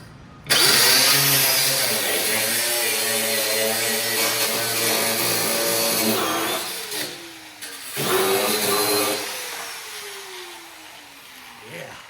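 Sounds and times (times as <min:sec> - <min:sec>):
cut-off grinder cutting metal: 0:00.5 - 0:11.8.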